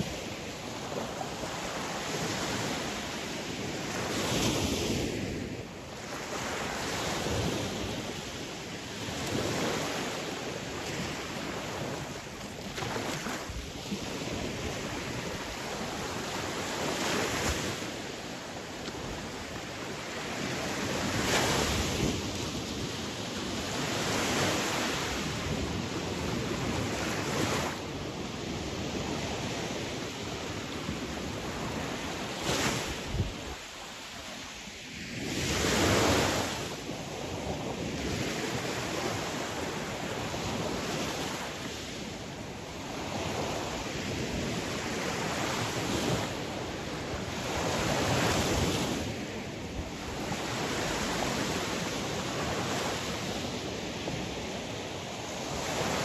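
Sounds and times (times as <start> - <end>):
sea waves washing on shore: 0.0 - 56.0.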